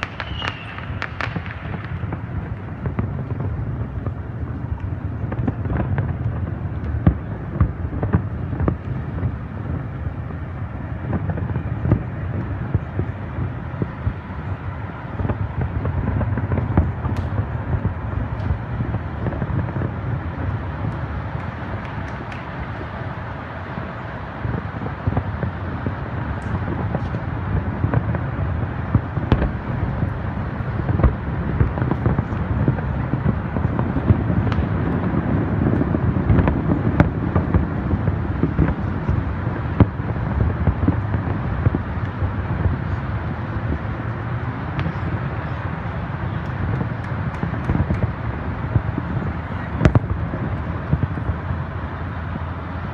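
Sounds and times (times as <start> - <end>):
rumble of firework bursts: 0.0 - 52.9
sharp firework cracks and bangs: 0.0 - 52.9.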